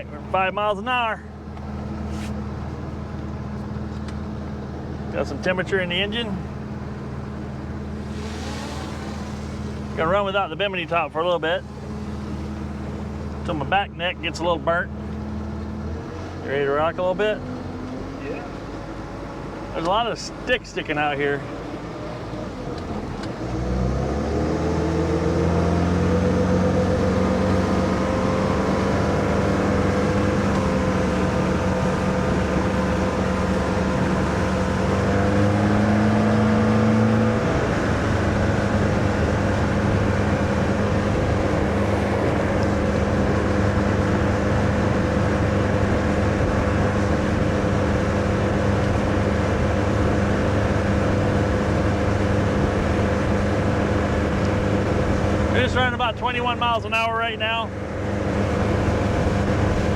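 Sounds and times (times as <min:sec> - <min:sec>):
boat engine accelerating: 0:00.0 - 0:59.9.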